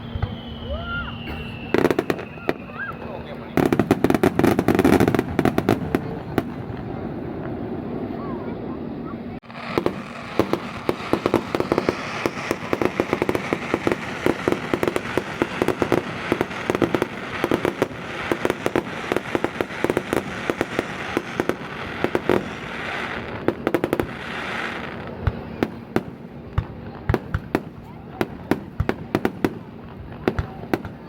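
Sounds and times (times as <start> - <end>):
fireworks crackling and popping: 0.0 - 31.0.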